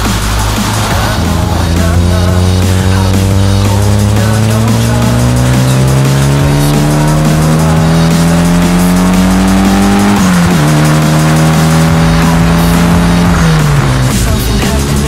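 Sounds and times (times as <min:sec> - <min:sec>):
car engine accelerating: 0:00.0 - 0:15.0
music: 0:00.0 - 0:15.0.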